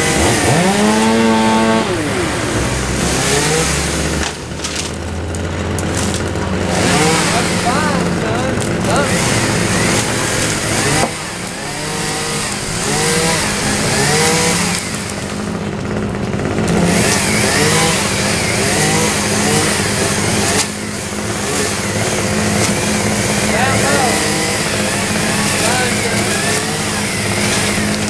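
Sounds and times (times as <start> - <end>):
low engine drone: 0.0 - 28.0
small engine revving in blips: 0.0 - 28.0.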